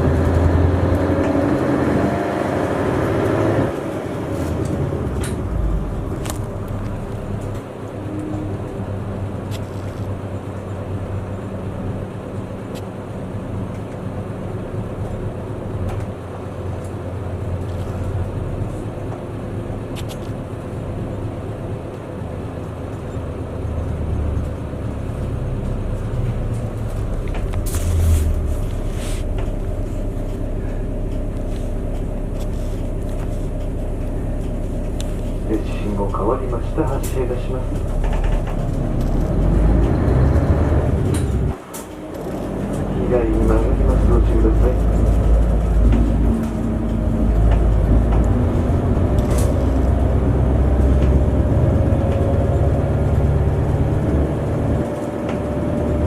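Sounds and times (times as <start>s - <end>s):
bus engine: 0.0s - 56.0s
road noise: 0.0s - 56.0s.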